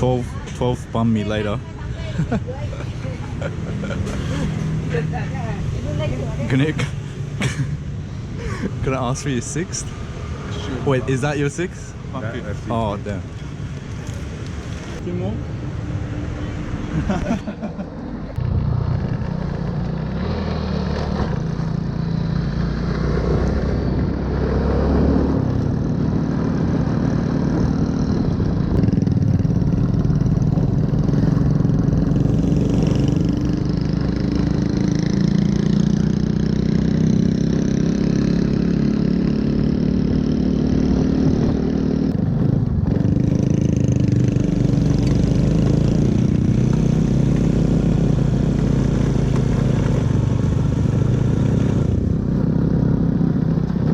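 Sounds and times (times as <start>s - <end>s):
road noise: 0.0s - 53.9s
wind: 0.0s - 53.9s.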